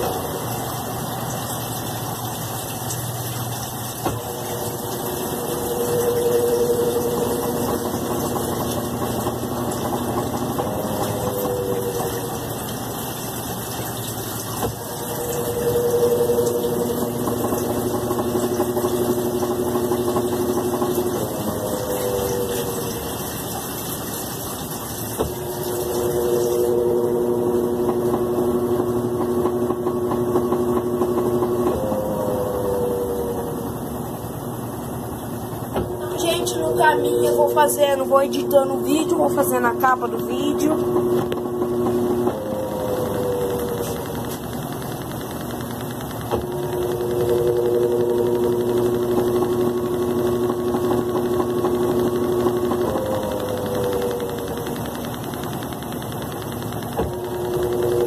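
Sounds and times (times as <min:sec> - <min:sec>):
motor hum: 0:00.0 - 0:58.0
washing machine spinning: 0:00.0 - 0:58.0.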